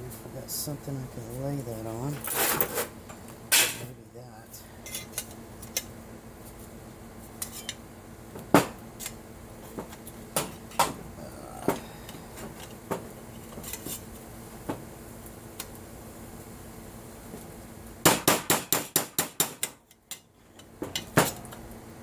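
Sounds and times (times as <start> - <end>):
faint steady hum: 0.0 - 18.2.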